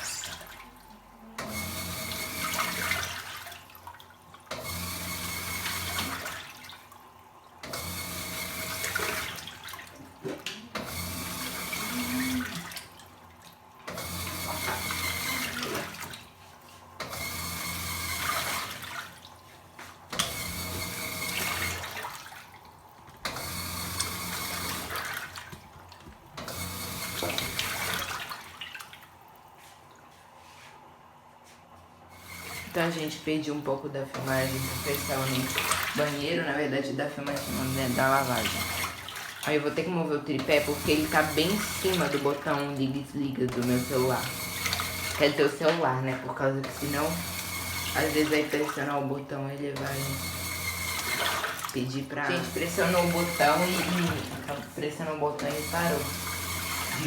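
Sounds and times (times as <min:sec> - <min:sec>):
motor hum: 0:00.0 - 0:03.4, 0:04.1 - 0:30.2, 0:32.0 - 0:57.0
water sloshing: 0:00.0 - 0:04.8, 0:05.5 - 0:30.9, 0:32.5 - 0:57.0
washing machine agitating: 0:00.0 - 0:57.0.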